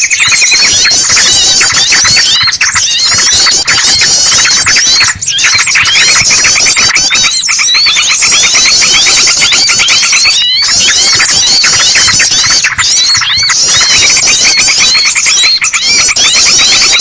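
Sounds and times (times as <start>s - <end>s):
bird distress calls squealing: 0.0s - 17.0s
bulbuls chattering: 0.0s - 17.0s.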